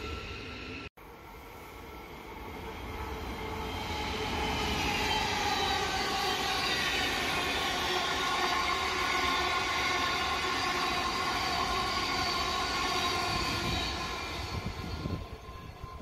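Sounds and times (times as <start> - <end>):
multi-tone train whine: 0.0 - 16.0.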